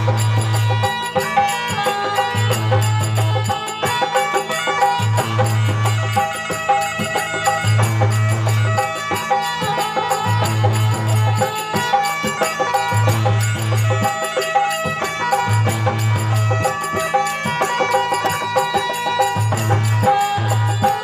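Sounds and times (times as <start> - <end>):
hand drum percussion: 0.0 - 21.0.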